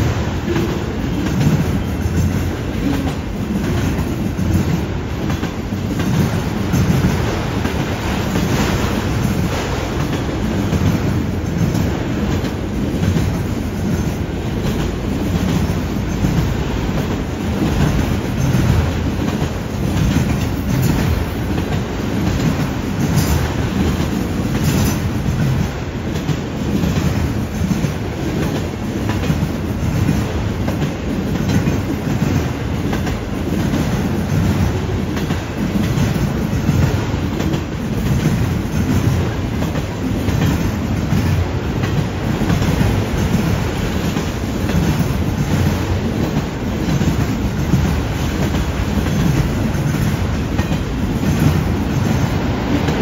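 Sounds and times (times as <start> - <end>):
freight cars rumbling on rails: 0.0 - 53.0
wheels clicking over rail joints: 0.0 - 53.0.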